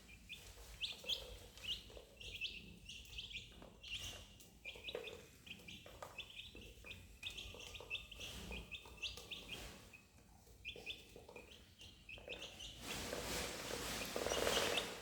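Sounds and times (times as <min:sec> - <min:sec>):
duckling peeping: 0:00.0 - 0:13.1, 0:13.8 - 0:15.0.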